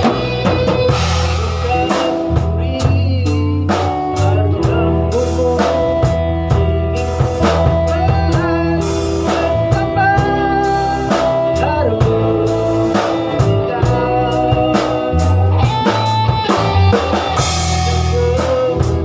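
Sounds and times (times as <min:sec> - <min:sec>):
drum kit beat: 0:00.0 - 0:19.0
electric bass line: 0:00.0 - 0:19.0
electric guitar lead notes: 0:00.0 - 0:19.0.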